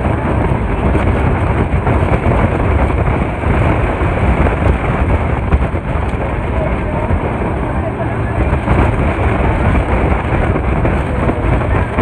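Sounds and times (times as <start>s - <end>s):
boat engine: 0.0s - 12.0s
wind on microphone: 0.0s - 12.0s.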